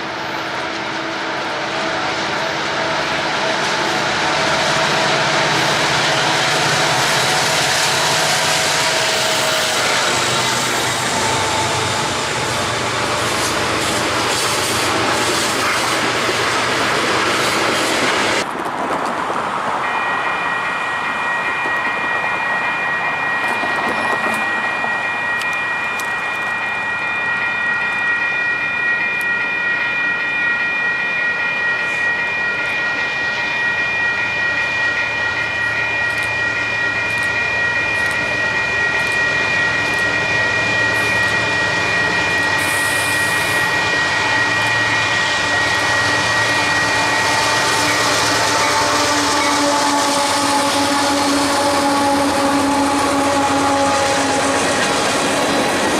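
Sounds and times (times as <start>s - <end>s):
high ringing tone: 0.0s - 18.4s, 19.8s - 55.9s
train wheels on rails: 0.0s - 55.9s
rail clicks: 0.6s - 55.9s.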